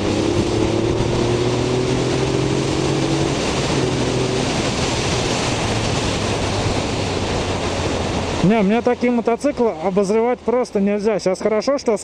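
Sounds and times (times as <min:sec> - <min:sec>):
wind rushing over microphone: 0:00.0 - 0:10.1.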